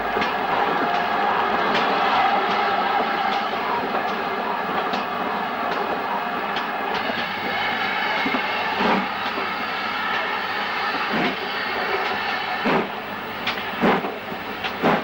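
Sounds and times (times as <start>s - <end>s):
steam train rumbling: 0.0s - 15.0s.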